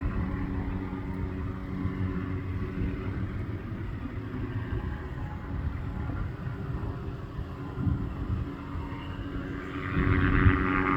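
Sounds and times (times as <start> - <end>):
helicopter turbine and rotor rumble: 0.0 - 10.9.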